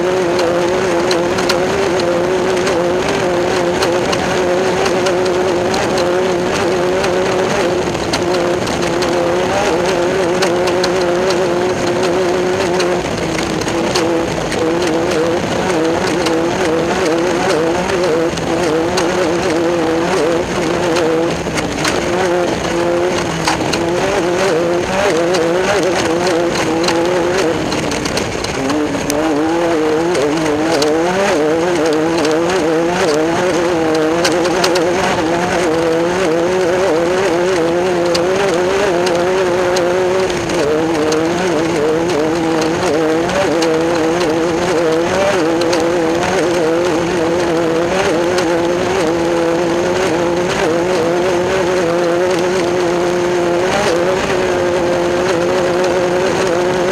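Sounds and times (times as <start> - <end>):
race car engine running hard: 0.0 - 56.9
road noise: 0.0 - 56.9.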